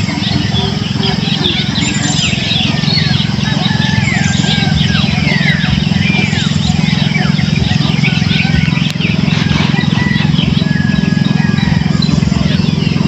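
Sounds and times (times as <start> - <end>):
birds chirping: 0.0 - 13.0
pulsing low drone: 0.0 - 13.0.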